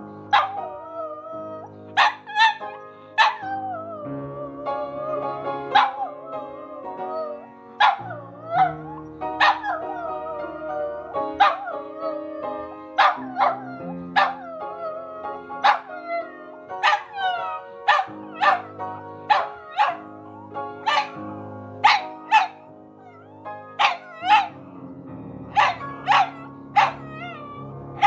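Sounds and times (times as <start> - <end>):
music with held chords: 0.0 - 28.0
dog howling: 0.4 - 21.3, 21.9 - 24.6, 25.5 - 28.0.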